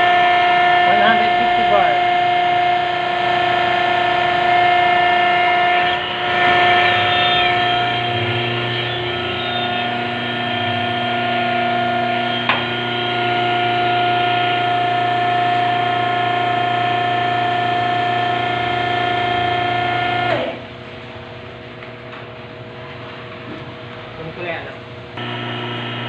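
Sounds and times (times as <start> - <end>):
hydraulic pump high whine: 0.0 - 21.3, 25.2 - 26.0.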